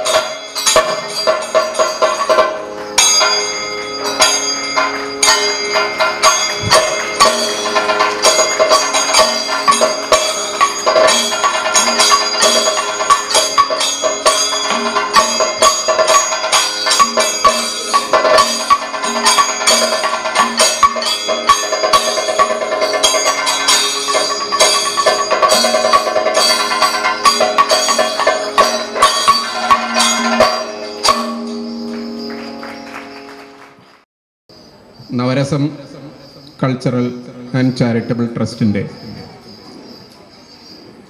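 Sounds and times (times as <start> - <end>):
ringing cymbals: 0.0 - 33.4, 34.5 - 41.0.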